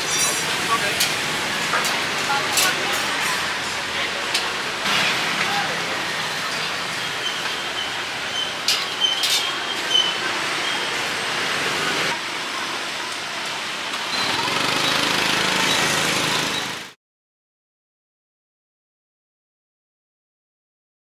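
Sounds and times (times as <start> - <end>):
steady noisy background: 0.0 - 17.0.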